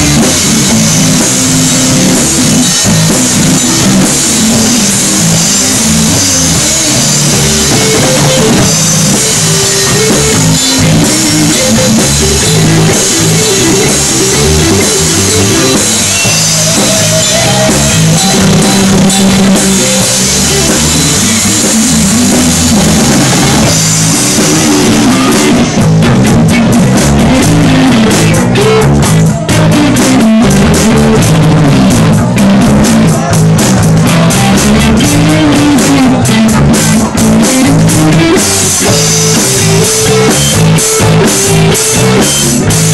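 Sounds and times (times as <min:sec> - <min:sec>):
bass guitar: 0:00.0 - 0:42.9
drum kit: 0:00.0 - 0:42.9
electric guitar: 0:00.0 - 0:42.9.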